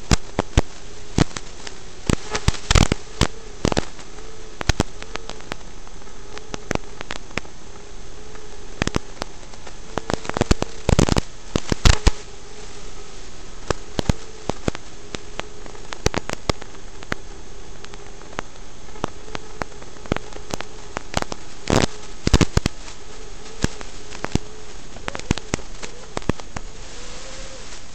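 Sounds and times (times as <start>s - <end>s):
crackles and pops: 0.0s - 27.9s
faint wavering tone: 0.0s - 27.9s
static hiss: 0.0s - 27.9s.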